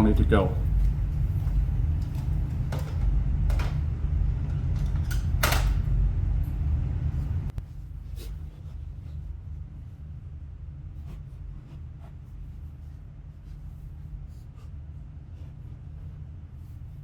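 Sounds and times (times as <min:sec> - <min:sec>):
low rumble: 0:00.0 - 0:14.3.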